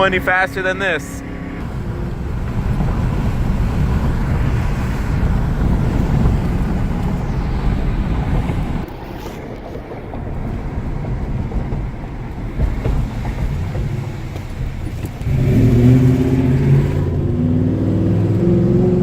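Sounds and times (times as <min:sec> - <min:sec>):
car engine at high revs: 0:00.0 - 0:19.0.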